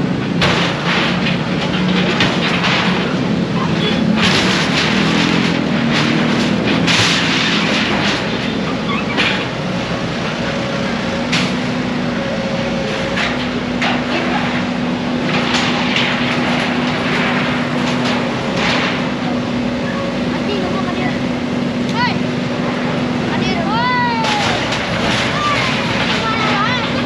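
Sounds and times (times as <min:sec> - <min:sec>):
debris clattering and knocking: 0:00.0 - 0:27.0
heavy machinery engine running: 0:00.0 - 0:27.0.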